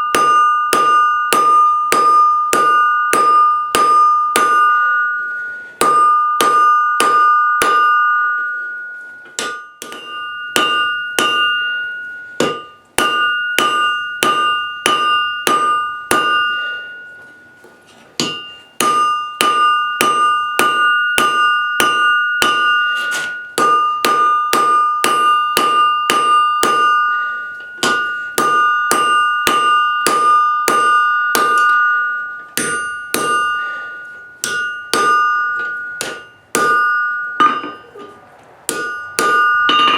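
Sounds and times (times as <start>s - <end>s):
hammer striking steel on anvil: 0.0s - 39.9s.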